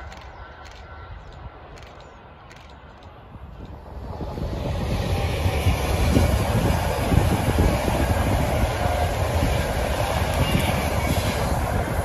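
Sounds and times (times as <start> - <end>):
train wheels running on rails: 0.0 - 12.0.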